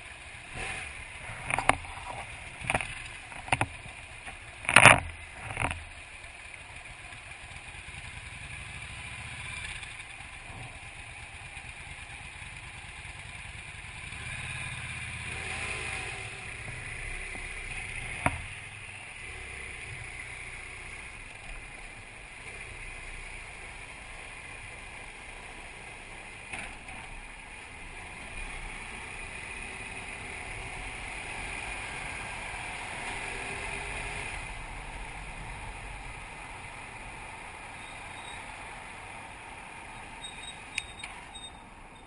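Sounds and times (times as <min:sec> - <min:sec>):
motorcycle engine humming: 0:00.0 - 0:42.0.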